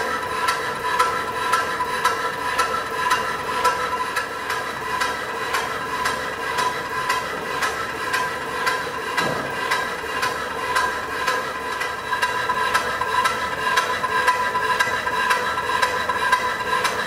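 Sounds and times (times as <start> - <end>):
steam engine knocking: 0.3 - 17.0.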